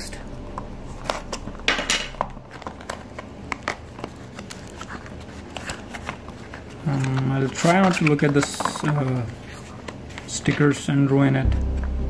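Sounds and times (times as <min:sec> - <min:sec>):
cardboard clicks and crinkles: 0:00.6 - 0:11.4.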